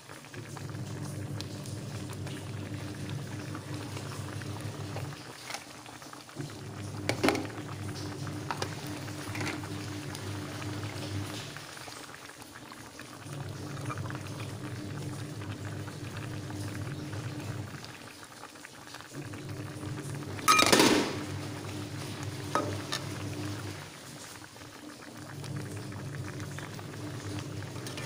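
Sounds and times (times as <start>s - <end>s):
curry simmering and bubbling in a pan: 0.0s - 20.6s, 21.2s - 28.0s.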